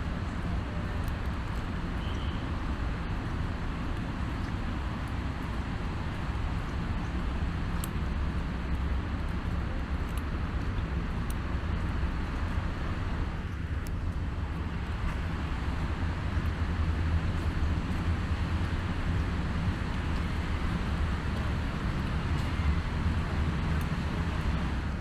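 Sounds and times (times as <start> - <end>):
city street traffic rumble: 0.0 - 25.0.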